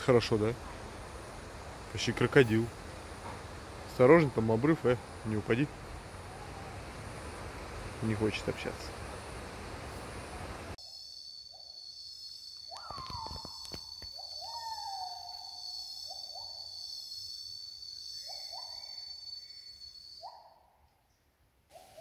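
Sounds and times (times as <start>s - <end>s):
high-pitched insect whine: 0.0s - 20.7s.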